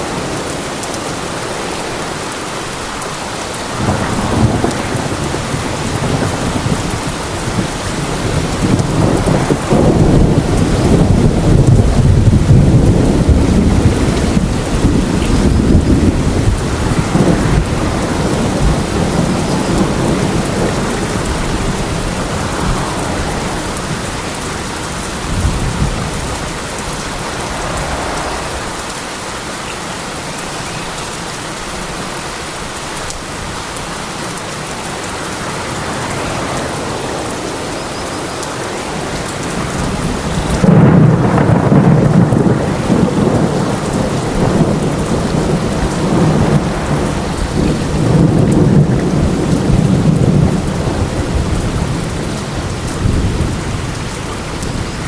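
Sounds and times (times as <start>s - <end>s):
steady rain falling: 0.0s - 55.0s
thunder rumbling: 3.5s - 29.6s, 34.8s - 55.0s.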